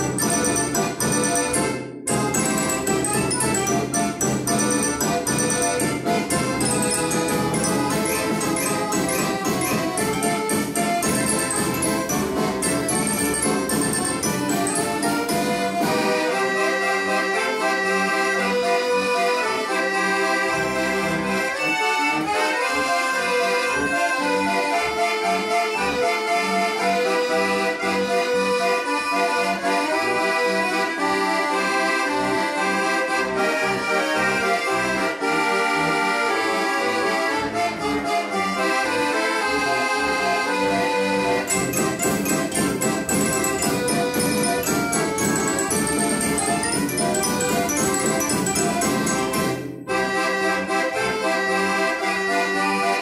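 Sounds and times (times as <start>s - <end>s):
accordion playing a tune: 0.0s - 53.0s.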